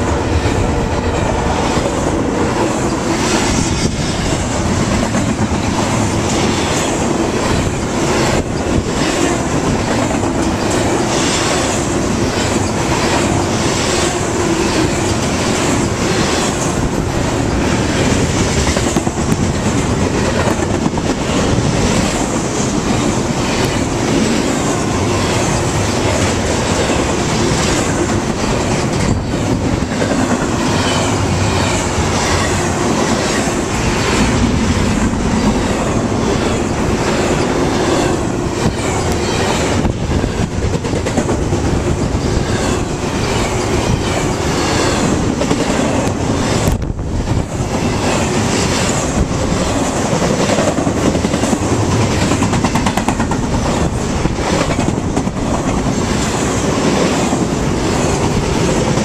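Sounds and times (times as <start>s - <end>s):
steel train wheels rolling on rails: 0.0s - 59.0s.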